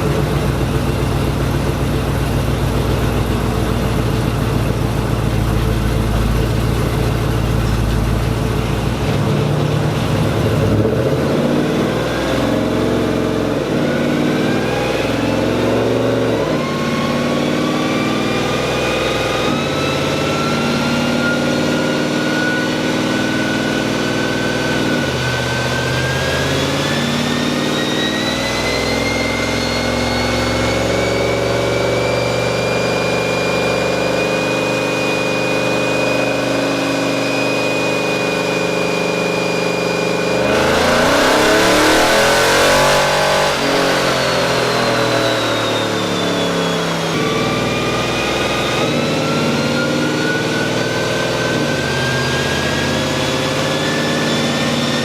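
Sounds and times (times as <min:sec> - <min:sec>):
car engine on dyno: 0:00.0 - 0:55.0
high whine rising: 0:00.0 - 0:55.0.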